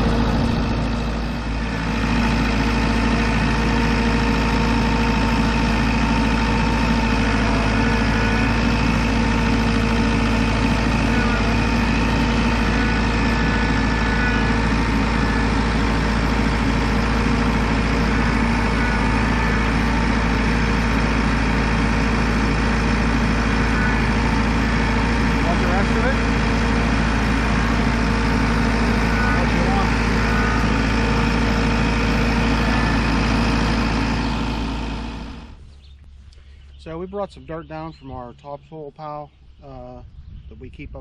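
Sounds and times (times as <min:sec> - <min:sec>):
engine running with low hum: 0:00.0 - 0:41.0.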